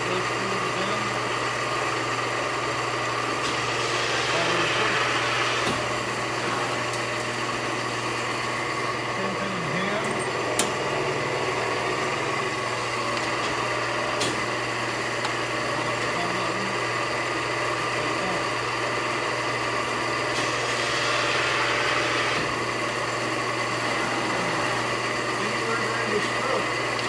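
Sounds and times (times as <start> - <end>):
press brake machine hum: 0.0 - 27.0.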